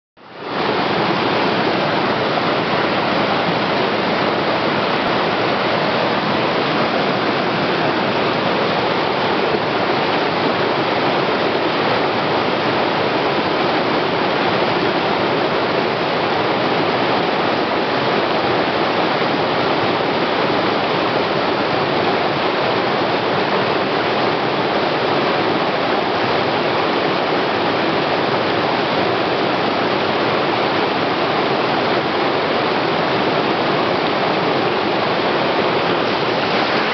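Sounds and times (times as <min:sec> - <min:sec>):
waterfall rushing: 0:00.2 - 0:36.9.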